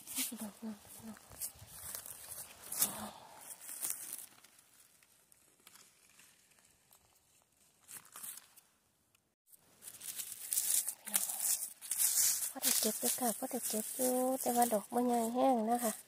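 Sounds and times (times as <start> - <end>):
dry leaves rustling and crackling: 0.0 - 8.4, 9.7 - 16.0.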